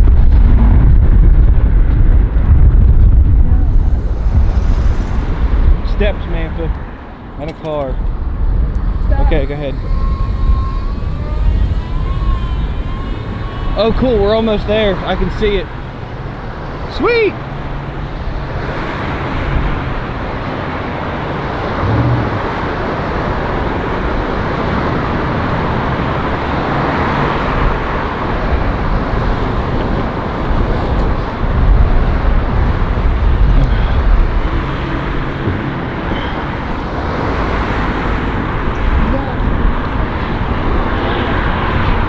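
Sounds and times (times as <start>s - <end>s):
wind buffeting microphone: 0.0s - 16.9s, 17.6s - 42.0s
road traffic passing: 0.0s - 42.0s.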